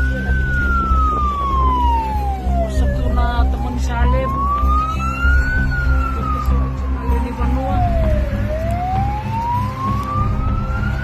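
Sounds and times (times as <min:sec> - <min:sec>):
heavy low rumble: 0:00.0 - 0:11.0
warning siren wailing: 0:00.0 - 0:11.0.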